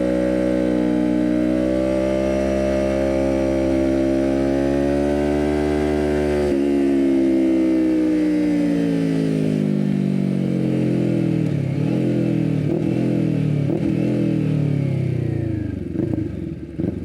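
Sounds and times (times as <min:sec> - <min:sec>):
motorcycle engine decelerating: 0:00.0 - 0:17.0.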